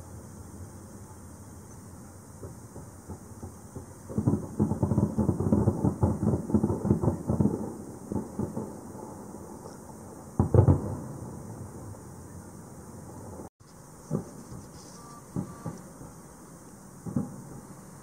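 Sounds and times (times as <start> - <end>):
fireworks bangs: 2.0 - 18.0
loud deep firework boom: 2.4 - 13.5, 14.1 - 16.3, 16.9 - 18.0.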